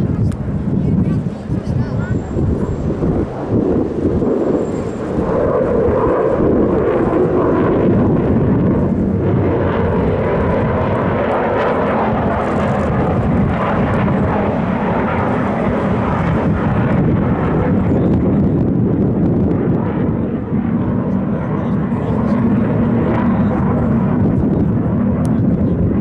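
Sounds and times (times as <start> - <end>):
jet aircraft engine roar: 0.0 - 26.0.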